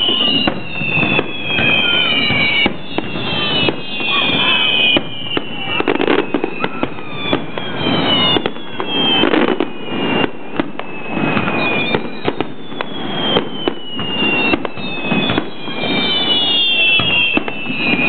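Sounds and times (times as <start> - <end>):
whistling fireworks: 0.0 - 18.0.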